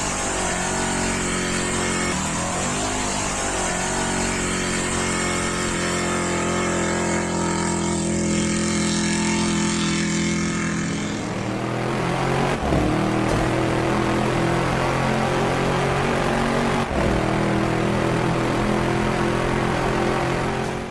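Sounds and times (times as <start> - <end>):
buggy engine running: 0.0 - 20.9.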